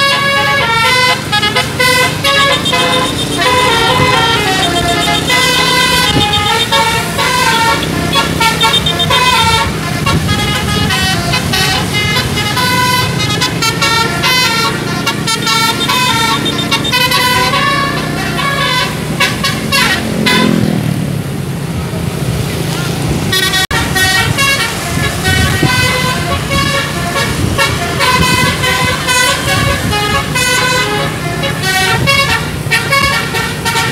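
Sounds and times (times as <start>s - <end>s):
musical bus air horn: 0.0s - 20.8s, 23.3s - 33.9s
bus engine humming: 0.0s - 33.9s.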